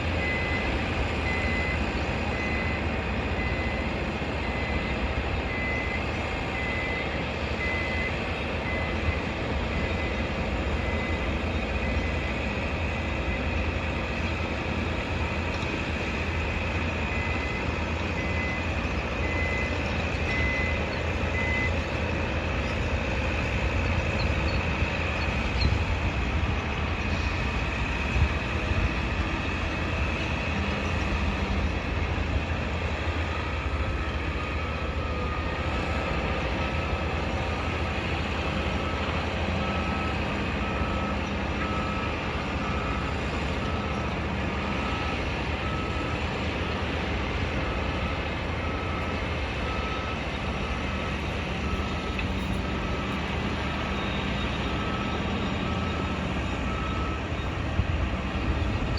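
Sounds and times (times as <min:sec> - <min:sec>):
heavy vehicle engine rumbling: 0:00.0 - 0:58.9
reversing alarm beeping: 0:00.0 - 0:58.9.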